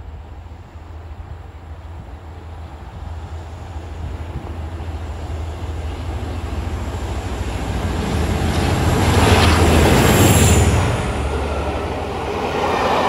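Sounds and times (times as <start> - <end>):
diesel locomotive engine drone: 0.0 - 13.0
rail noise: 0.0 - 13.0.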